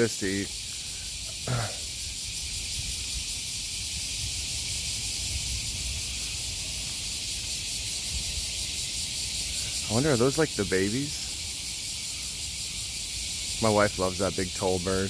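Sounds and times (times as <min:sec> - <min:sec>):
cicadas singing: 0:00.0 - 0:15.0.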